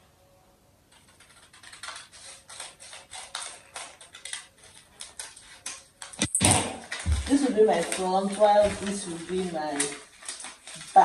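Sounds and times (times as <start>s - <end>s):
scissors snipping paper: 0.9s - 11.0s.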